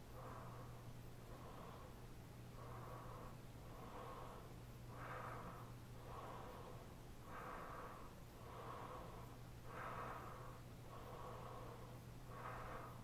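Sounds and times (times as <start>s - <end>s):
heavy breathing through a mask: 0.0s - 13.0s
steady low hum: 0.0s - 13.0s.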